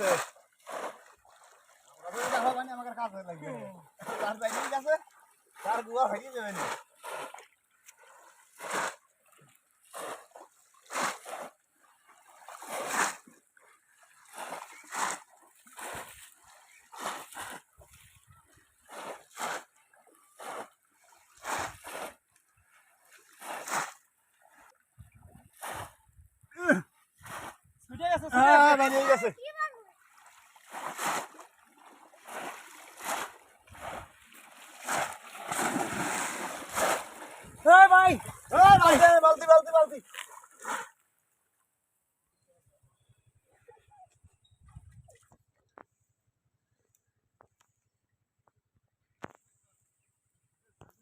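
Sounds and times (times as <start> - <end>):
water splashing in shallow water: 0.0 - 51.0.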